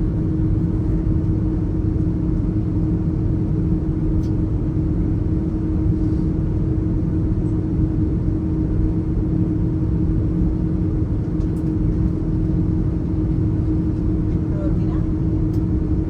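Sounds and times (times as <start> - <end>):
jet engines heard from cabin: 0.0 - 16.0.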